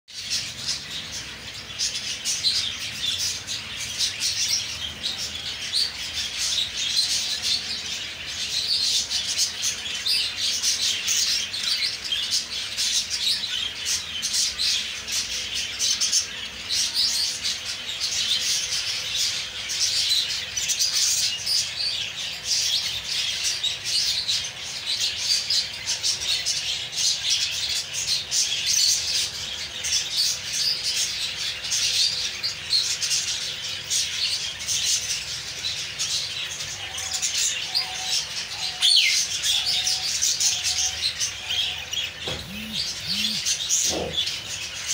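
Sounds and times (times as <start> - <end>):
budgerigars chattering and chirping: 0.1 - 44.9.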